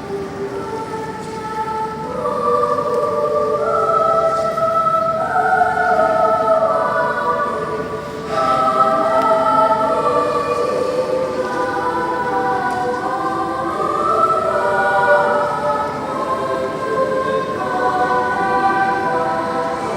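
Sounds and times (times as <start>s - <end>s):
children's choir singing chords: 0.0s - 19.9s.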